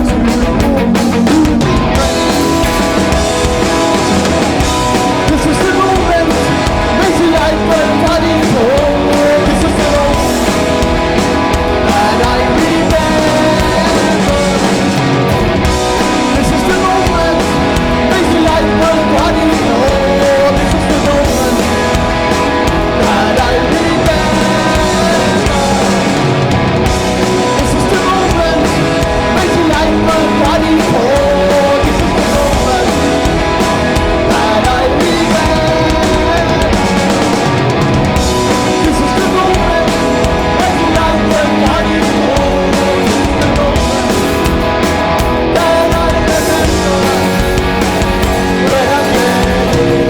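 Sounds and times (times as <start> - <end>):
person singing: 0.0 - 4.2, 4.8 - 44.4, 45.2 - 50.0
live punk band playing: 0.0 - 50.0.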